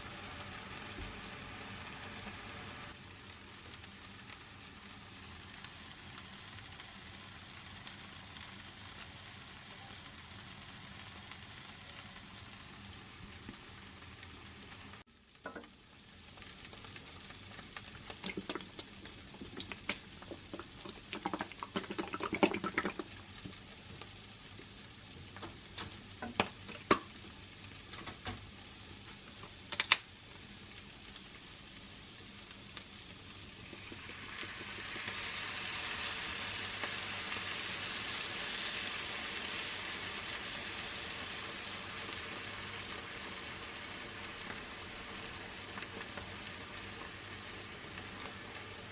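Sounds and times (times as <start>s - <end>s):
sauce sizzling in a pan: 0.0s - 48.9s.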